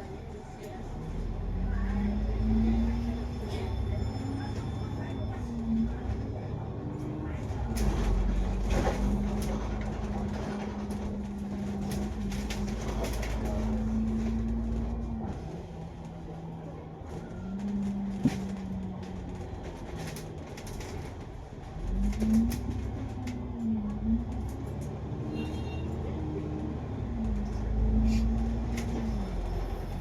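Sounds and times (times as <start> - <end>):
bus engine running: 0.0 - 30.0.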